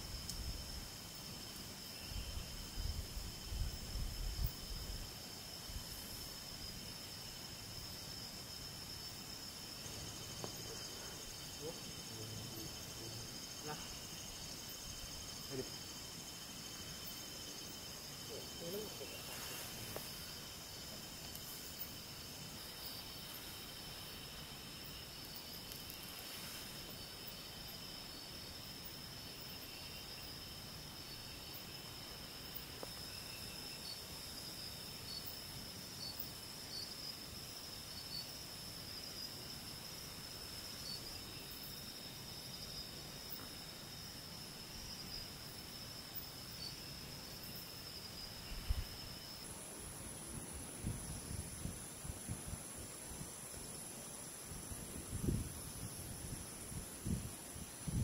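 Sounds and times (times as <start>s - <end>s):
night insects chirring: 0.0s - 58.0s.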